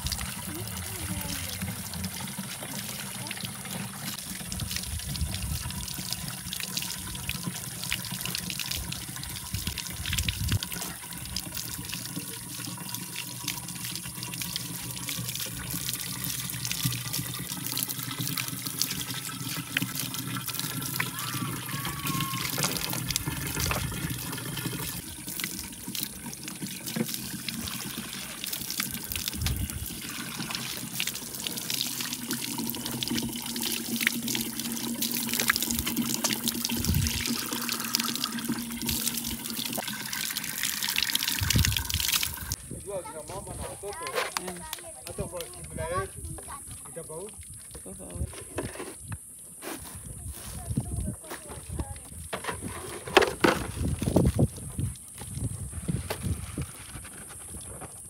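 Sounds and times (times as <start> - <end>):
water trickling and splashing: 0.0 - 57.8.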